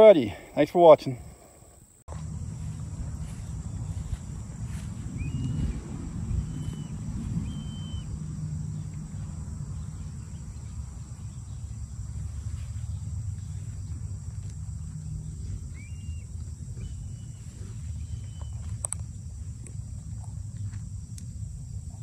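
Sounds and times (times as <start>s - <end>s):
birds chirping: 0.0s - 18.9s
high insect drone: 0.0s - 22.0s
low rumble: 2.1s - 22.0s.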